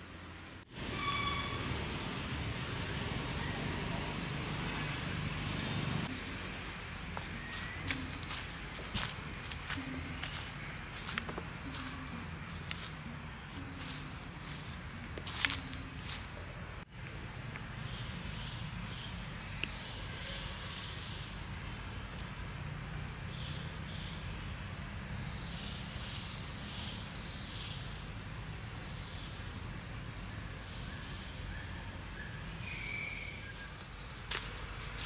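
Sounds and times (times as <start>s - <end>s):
insects trilling: 6.0s - 35.0s.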